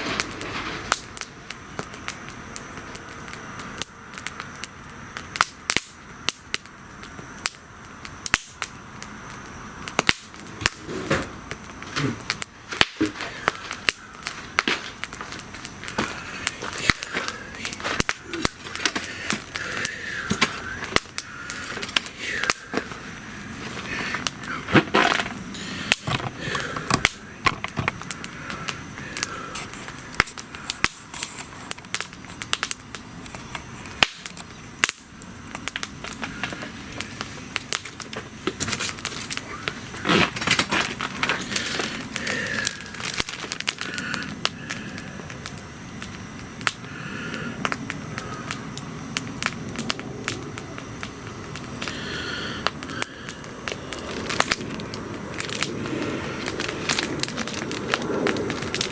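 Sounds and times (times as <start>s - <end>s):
sharp pops of burning wood: 0.0s - 58.9s
wood bonfire crackling: 0.0s - 58.9s.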